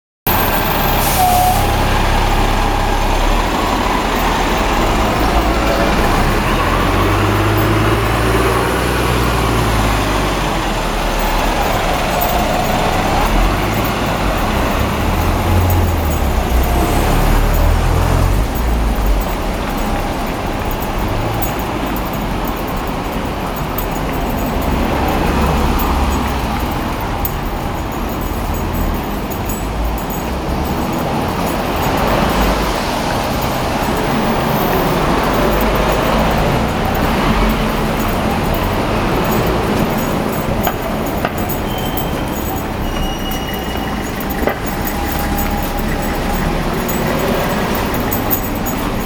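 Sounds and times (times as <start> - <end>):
cars passing: 0.3 - 49.0
heavy vehicles passing: 0.3 - 49.0.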